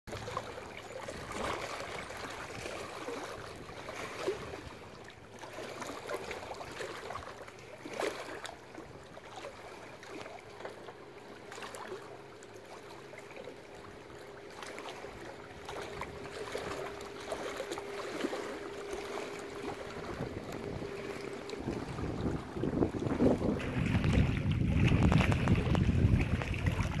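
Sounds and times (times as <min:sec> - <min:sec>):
faint steady hum: 0:00.1 - 0:27.0
water splashing and trickling: 0:00.1 - 0:27.0
waves lapping on rocky shore: 0:00.1 - 0:27.0.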